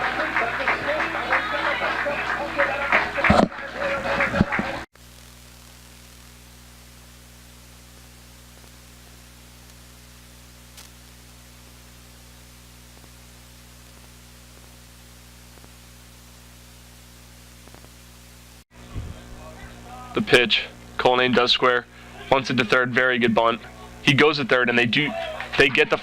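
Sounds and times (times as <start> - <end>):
electrical hum with hiss: 0.0 - 26.0.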